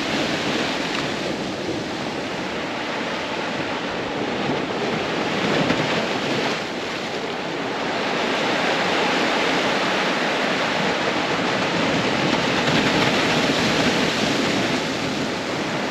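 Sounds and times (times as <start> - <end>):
ocean waves washing onto shore: 0.0 - 15.9.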